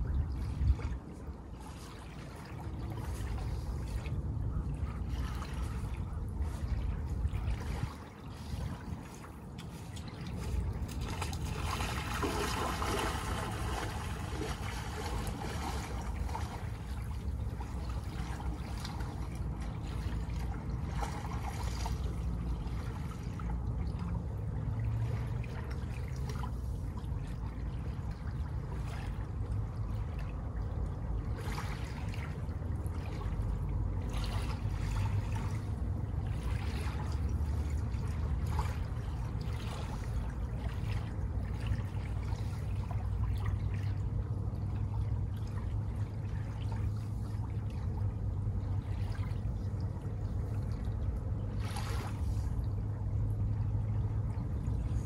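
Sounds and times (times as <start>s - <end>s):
low rumble: 0.0s - 55.0s
water lapping at shoreline: 0.0s - 55.0s.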